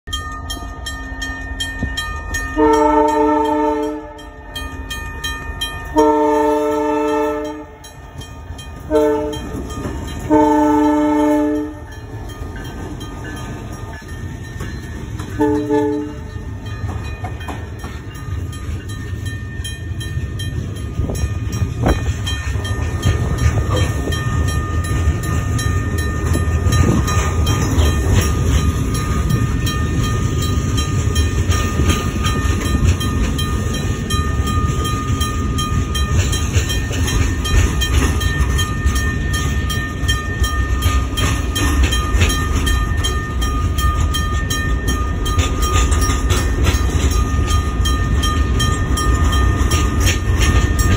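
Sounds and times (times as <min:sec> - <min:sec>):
crossing bell ringing: 0:00.0 - 0:50.9
train wheels rumbling on rails: 0:00.1 - 0:50.9.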